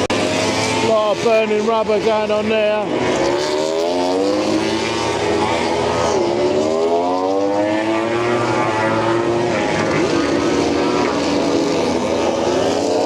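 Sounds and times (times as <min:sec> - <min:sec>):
racing motorcycle engines revving: 0:00.0 - 0:13.0.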